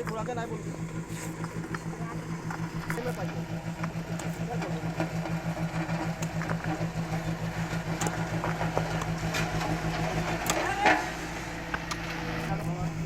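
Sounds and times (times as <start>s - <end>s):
engine running: 0.0s - 13.0s
loud clatter: 1.3s - 12.6s.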